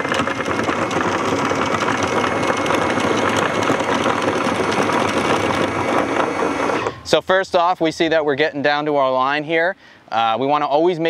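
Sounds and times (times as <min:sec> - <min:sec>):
faint motor whine: 0:00.0 - 0:10.7.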